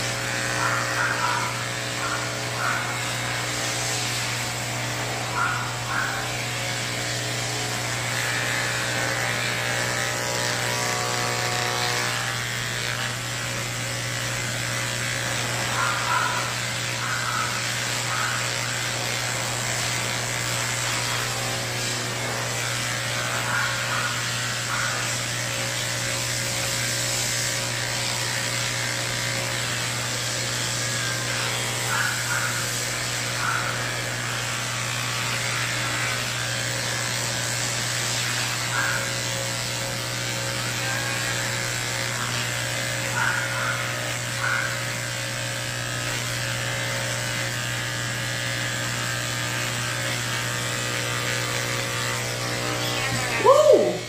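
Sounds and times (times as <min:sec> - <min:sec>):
electric clippers humming: 0:00.0 - 0:54.0.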